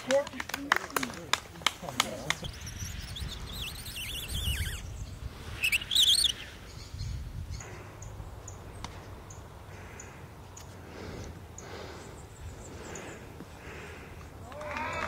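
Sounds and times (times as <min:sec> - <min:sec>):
birds chirping gliding notes: 0:01.7 - 0:14.1.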